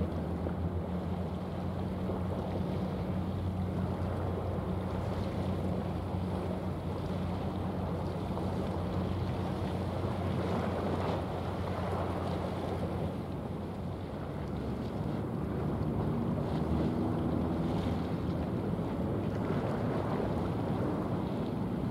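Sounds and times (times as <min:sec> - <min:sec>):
water noise: 0:00.0 - 0:21.9
wind: 0:00.0 - 0:21.9.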